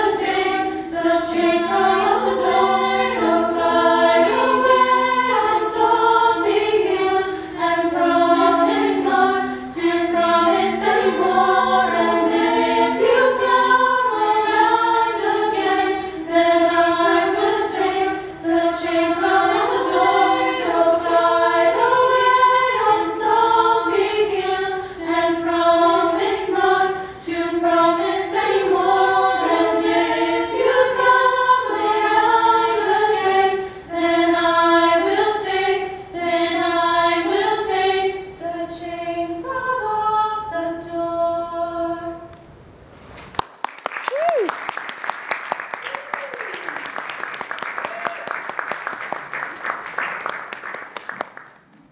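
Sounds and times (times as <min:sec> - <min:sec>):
women's choir singing a cappella: 0:00.0 - 0:42.5.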